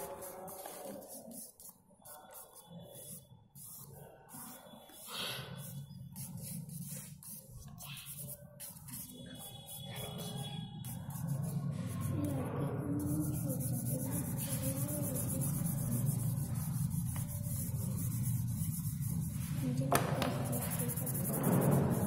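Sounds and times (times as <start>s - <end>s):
charcoal scratching on paper: 0.0s - 22.0s.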